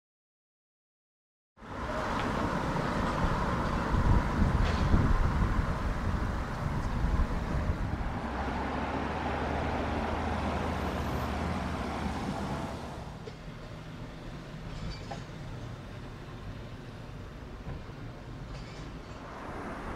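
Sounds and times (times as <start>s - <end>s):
heavy vehicle engine rumbling: 1.6s - 19.9s.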